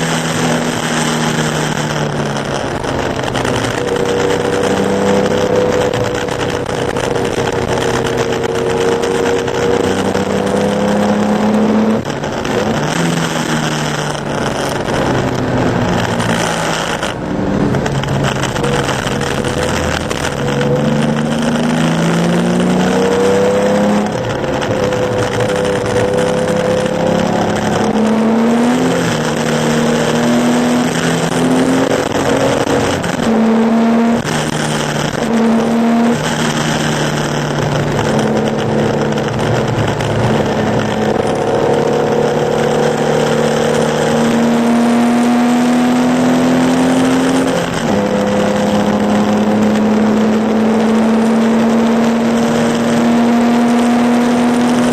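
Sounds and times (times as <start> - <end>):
racing car engine revving: 0.0 - 54.9.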